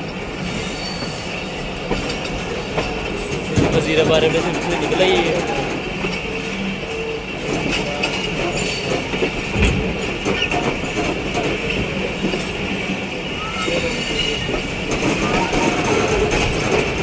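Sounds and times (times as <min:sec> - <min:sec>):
wheels rumbling on rail: 0:00.0 - 0:17.0
wheels clicking over rail joints: 0:01.8 - 0:13.0, 0:13.7 - 0:17.0.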